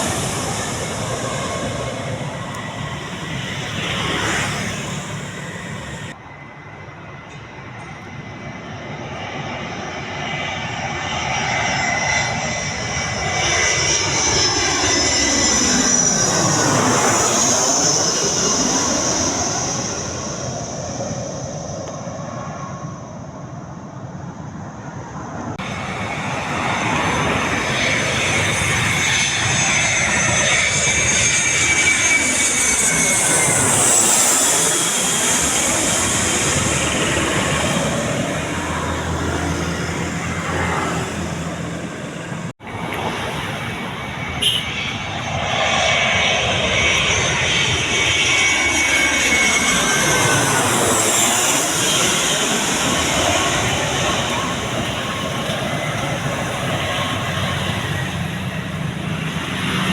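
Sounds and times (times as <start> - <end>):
jet engine whine: 0.0 - 59.9
jet engines roaring: 0.0 - 59.9.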